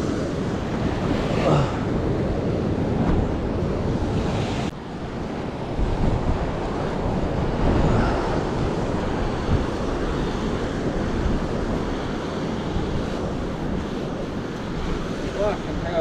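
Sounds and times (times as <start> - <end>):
ocean swell breaking on rocks: 0.0 - 16.0
wind buffeting microphone: 0.0 - 16.0.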